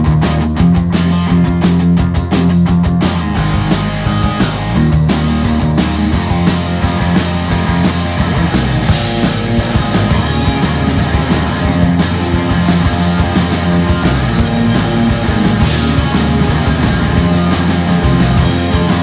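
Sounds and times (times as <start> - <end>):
bass guitar: 0.0 - 19.0
distorted electric guitar: 0.0 - 19.0
drum kit: 0.0 - 19.0.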